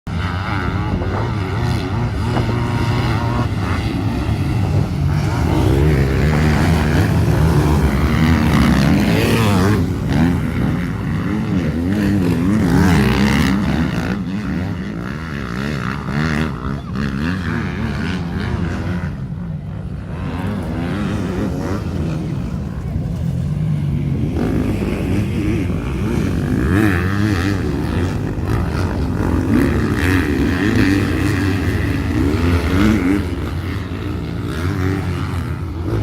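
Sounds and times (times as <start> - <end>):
racing motorcycle engines revving: 0.0 - 36.0.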